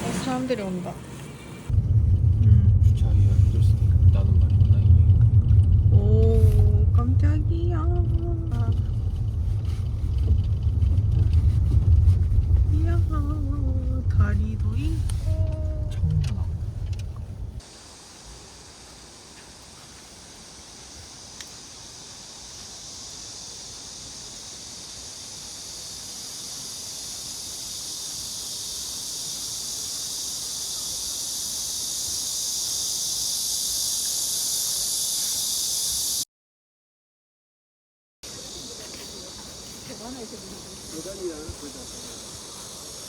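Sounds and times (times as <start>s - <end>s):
cicadas shrilling: 0.0s - 1.8s, 5.9s - 36.2s, 38.2s - 43.0s.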